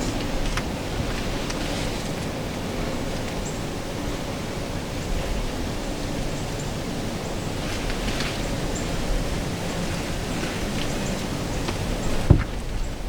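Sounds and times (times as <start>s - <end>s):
faint rustles: 0.0s - 3.5s, 5.1s - 13.0s
wind buffeting microphone: 0.0s - 13.0s.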